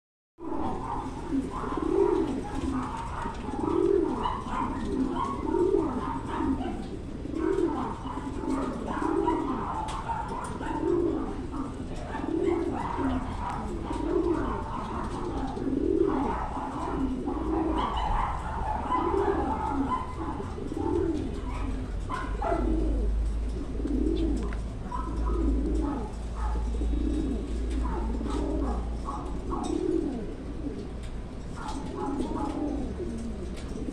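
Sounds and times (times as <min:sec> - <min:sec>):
pigeon cooing: 0:00.4 - 0:33.9.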